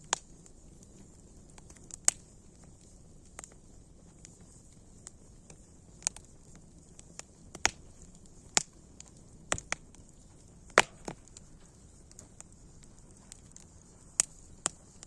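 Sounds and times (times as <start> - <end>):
faint steady hiss: 0.0 - 15.0
wood fire crackling: 0.0 - 15.0.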